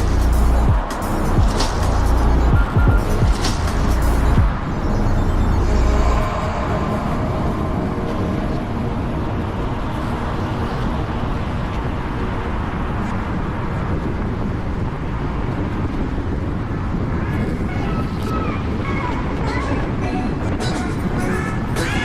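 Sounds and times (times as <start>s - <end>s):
car driving traffic rumble: 0.0s - 22.0s.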